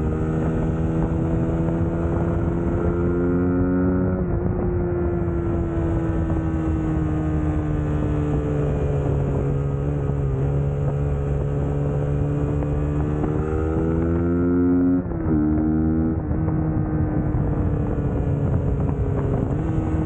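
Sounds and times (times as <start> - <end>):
motorcycle engine running: 0.0 - 20.0
wind noise: 0.0 - 20.0.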